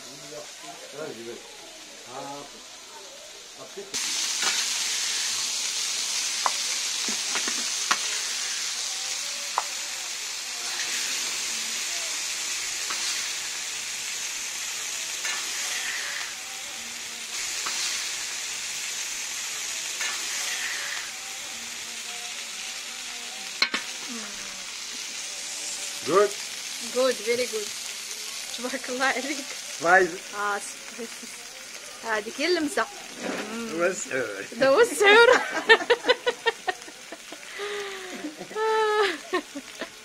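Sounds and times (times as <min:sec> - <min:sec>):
meat patties sizzling on griddle: 0:00.0 - 0:40.0.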